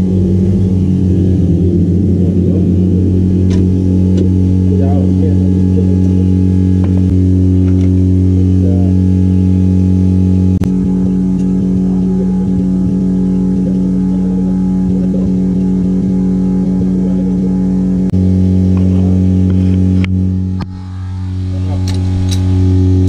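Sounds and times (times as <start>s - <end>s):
loud low hum with overtones: 0.0s - 23.0s.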